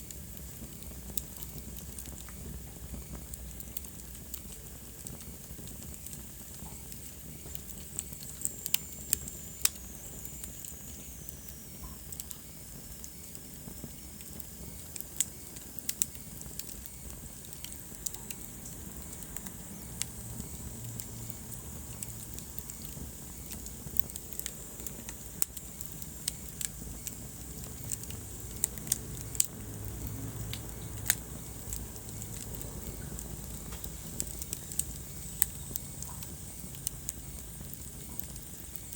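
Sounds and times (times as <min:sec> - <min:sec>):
fire crackles and pops: 0:00.0 - 0:38.9
low rumble of flames: 0:00.0 - 0:38.9.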